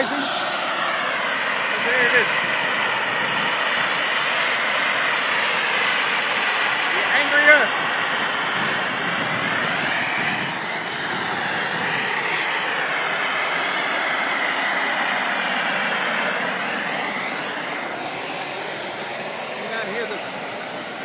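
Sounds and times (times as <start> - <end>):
steam jetting with loud hiss: 0.0 - 21.0.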